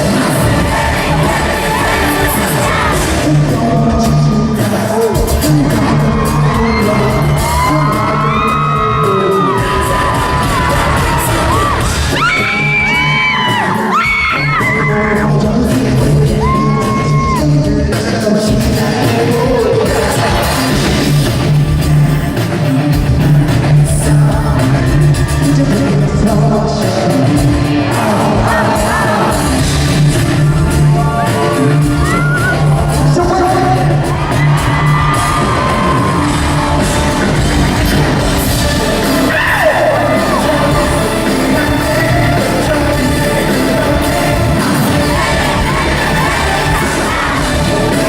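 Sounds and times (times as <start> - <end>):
crowd yelling: 0.0 - 17.7, 18.8 - 48.0
live pop concert music: 0.0 - 48.0
person singing: 0.0 - 48.0.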